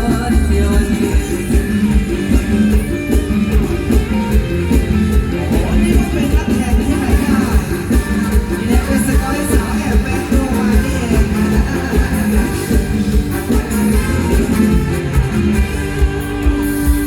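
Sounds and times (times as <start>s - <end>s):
live band music: 0.0s - 17.0s
steady drum beat: 0.0s - 17.0s.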